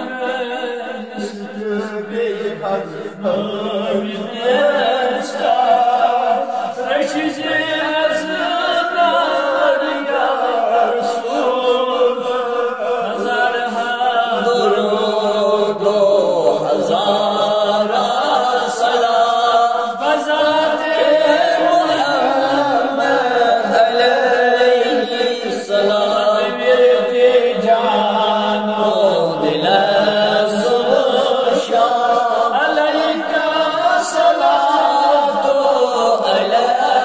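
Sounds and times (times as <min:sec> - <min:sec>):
man chanting melodically: 0:00.0 - 0:37.0.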